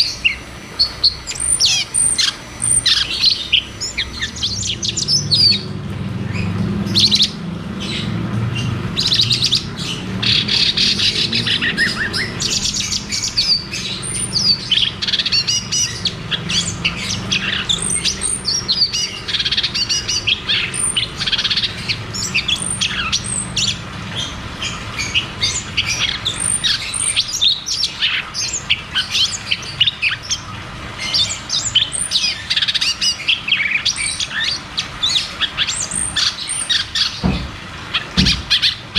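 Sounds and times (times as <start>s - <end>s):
bulbul singing fast chirps: 0.0s - 37.3s.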